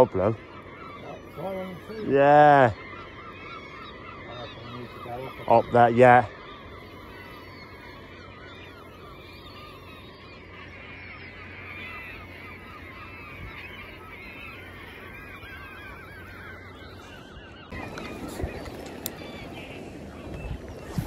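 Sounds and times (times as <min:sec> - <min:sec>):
seagulls crying: 0:00.0 - 0:21.0.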